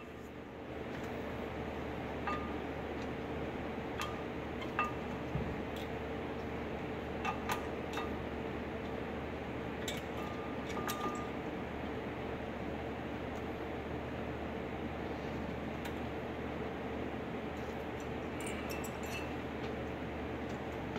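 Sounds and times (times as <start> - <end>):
steady background hum: 0.0 - 20.9.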